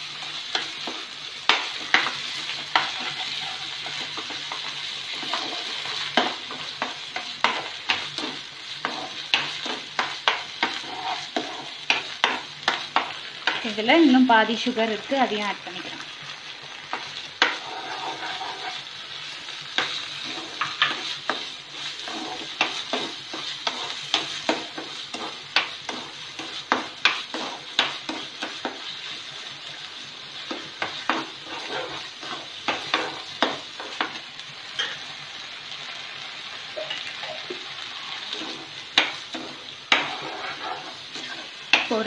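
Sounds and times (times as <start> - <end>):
mixture sizzling: 0.0 - 42.0
spoon scraping a pan: 0.2 - 13.8, 16.9 - 29.8, 30.4 - 35.2, 36.7 - 42.0.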